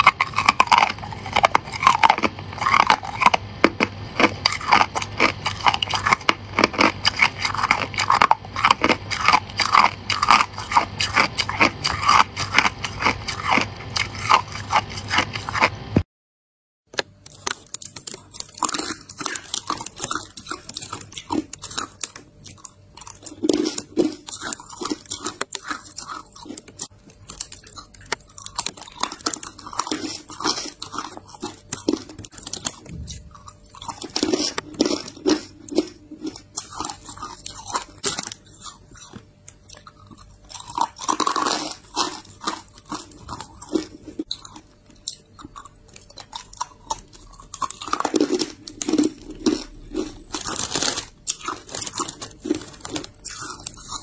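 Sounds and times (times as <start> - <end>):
ice crunching being chewed: 0.0 - 15.8, 17.2 - 54.0.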